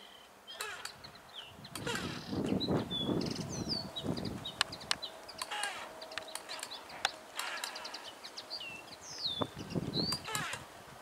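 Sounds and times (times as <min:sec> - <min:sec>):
songbirds chirping and whistling: 0:00.0 - 0:10.7.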